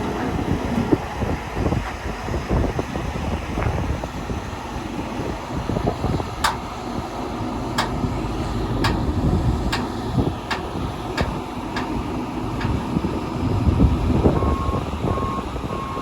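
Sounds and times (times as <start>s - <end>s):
heavy machinery rumbling: 0.0s - 16.0s.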